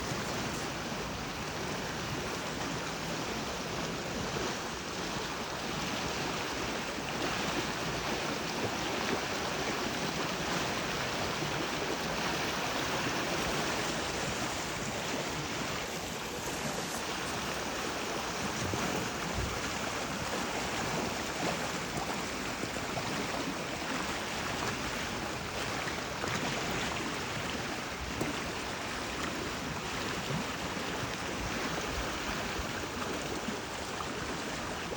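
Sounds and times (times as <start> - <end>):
river water rushing over rocks: 0.0 - 34.9.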